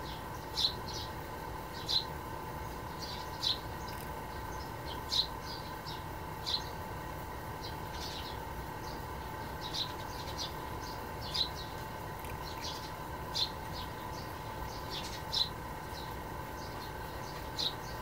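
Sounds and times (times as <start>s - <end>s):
faint steady tone: 0.0s - 18.0s
small bird chirping: 0.0s - 18.0s.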